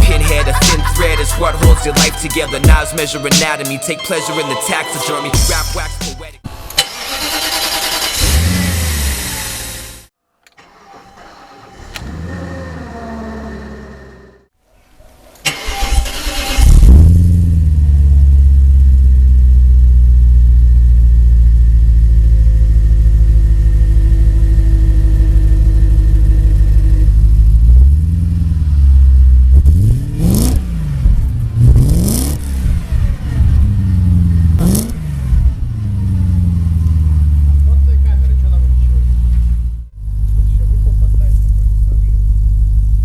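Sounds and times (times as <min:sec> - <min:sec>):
car engine starting and idling: 0:00.0 - 0:14.5, 0:15.4 - 0:43.0
engine throttle blips: 0:05.4 - 0:14.5, 0:15.5 - 0:43.0.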